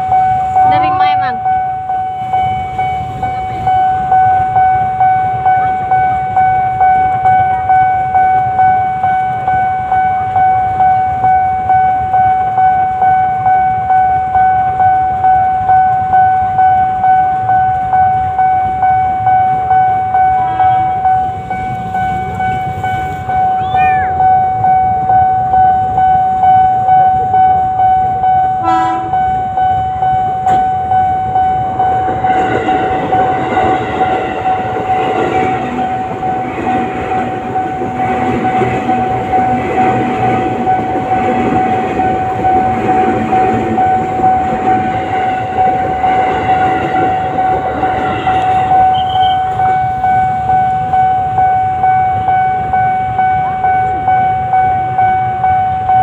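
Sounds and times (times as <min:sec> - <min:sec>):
level-crossing warning bell ringing: 0:00.0 - 0:56.0
train wheels rumbling on rails: 0:00.0 - 0:56.0.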